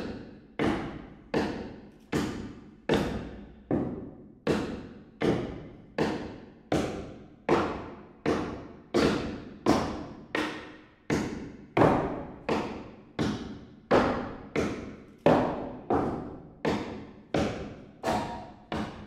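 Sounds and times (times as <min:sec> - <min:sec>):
hammering nails into wood: 0:00.6 - 0:19.0.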